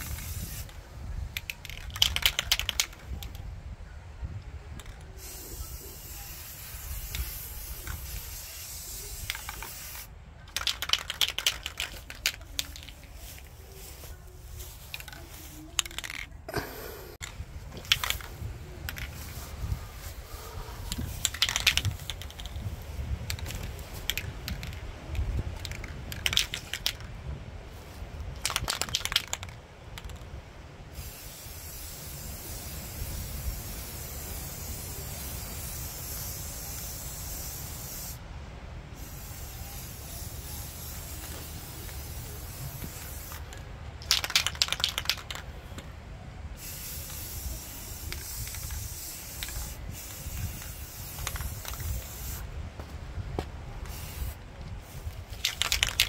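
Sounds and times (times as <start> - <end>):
spray can rattling when shaken: 0.0 - 3.5, 4.7 - 27.2, 27.8 - 30.4, 31.0 - 38.2, 39.0 - 45.9, 46.6 - 52.5, 53.8 - 56.0
spray-paint can hissing: 0.0 - 3.5, 4.8 - 27.1, 27.8 - 30.2, 30.9 - 38.2, 38.9 - 45.4, 46.6 - 52.5, 53.8 - 56.0.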